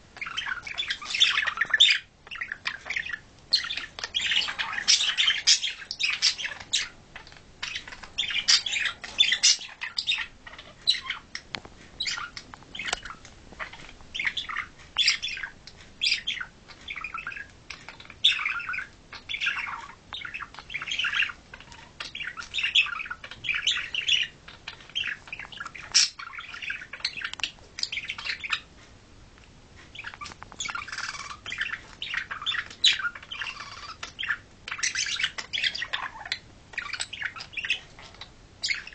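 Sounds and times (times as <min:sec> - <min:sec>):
budgerigars chirping and squawking: 0:00.2 - 0:28.7, 0:29.8 - 0:38.9.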